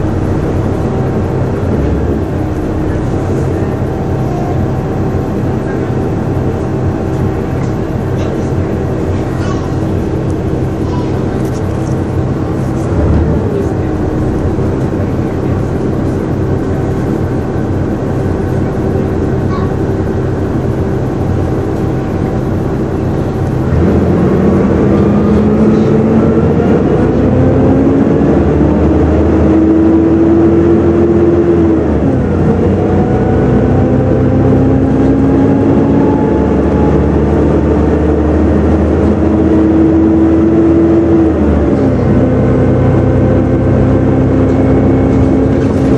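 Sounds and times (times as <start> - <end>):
bus engine running: 0.0 - 45.9
rising gear whine: 0.0 - 45.9.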